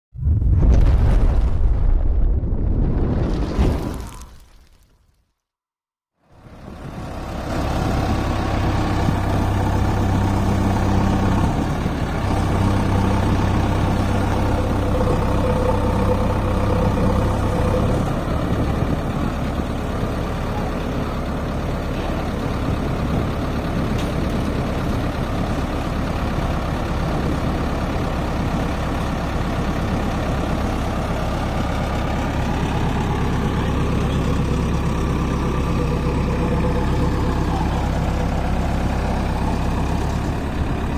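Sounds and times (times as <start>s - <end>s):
diesel engine running: 6.2s - 40.9s.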